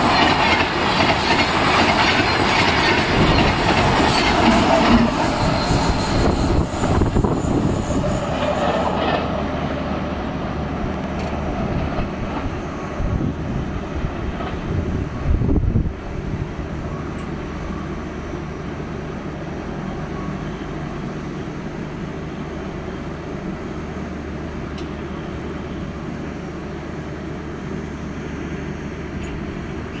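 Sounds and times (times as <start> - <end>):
loud rush of train: 0.0 - 30.0
train rumble and hum: 0.0 - 30.0.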